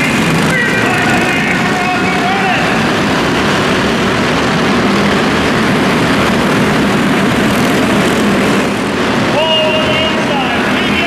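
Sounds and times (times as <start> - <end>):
stock car engines racing past: 0.0 - 11.0.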